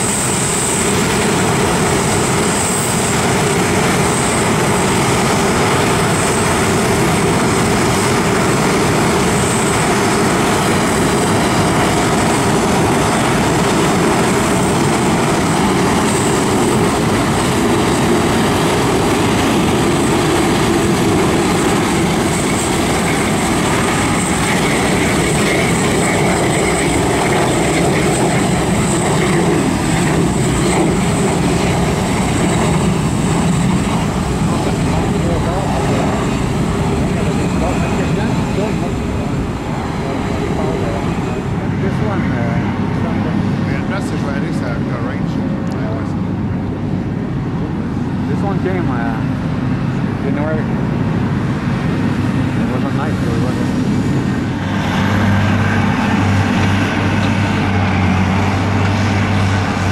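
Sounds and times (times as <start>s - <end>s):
high whine: 0.0s - 59.9s
jet engines running: 0.0s - 59.9s.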